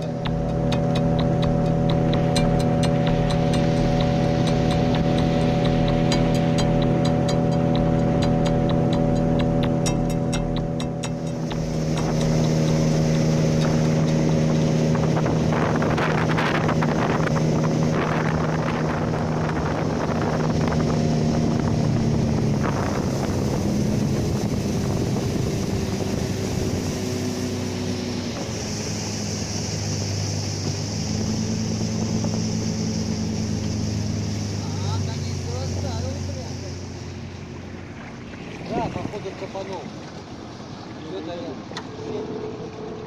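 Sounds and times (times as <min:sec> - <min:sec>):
motorboat engine running: 0:00.0 - 0:43.0.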